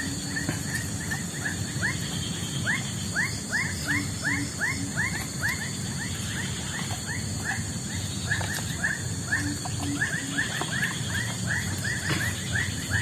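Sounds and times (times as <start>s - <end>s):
animal chirping: 0.0s - 13.0s
steady high hiss: 0.0s - 13.0s.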